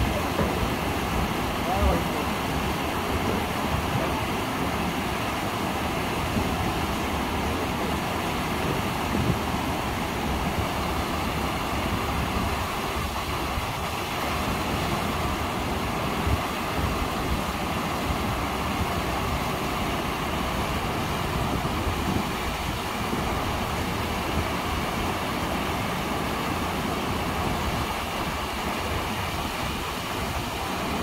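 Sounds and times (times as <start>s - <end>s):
water rushing over rock cascade: 0.0s - 31.0s.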